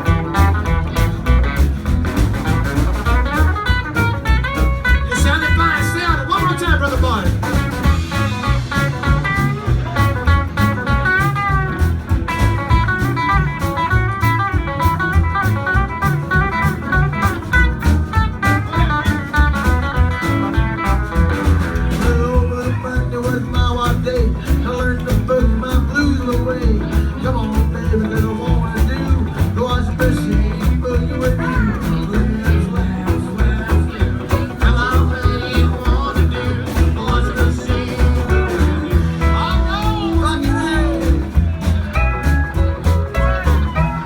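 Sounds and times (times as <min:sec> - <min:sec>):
bass and drum beat: 0:00.0 - 0:44.0
lead guitar runs: 0:00.0 - 0:44.0.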